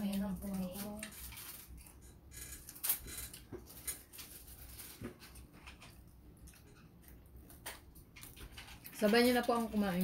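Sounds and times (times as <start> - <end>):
crispy pork skin crunching: 0.0 - 10.0.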